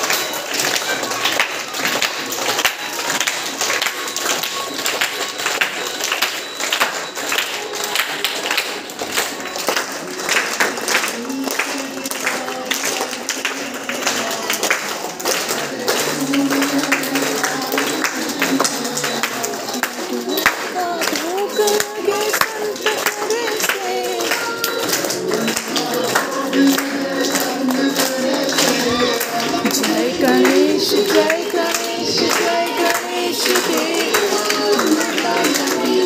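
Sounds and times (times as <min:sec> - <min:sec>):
children clapping: 0:00.0 - 0:36.0
music: 0:00.0 - 0:36.0
children singing: 0:04.2 - 0:36.0.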